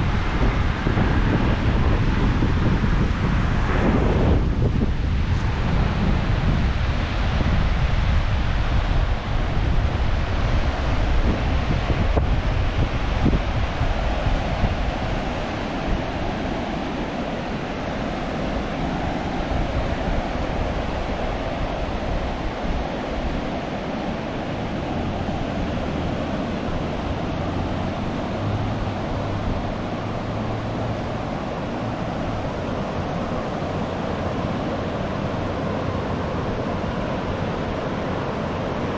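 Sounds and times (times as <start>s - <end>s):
surf washing on beach: 0.0s - 38.9s
wind buffeting microphone: 0.0s - 38.9s.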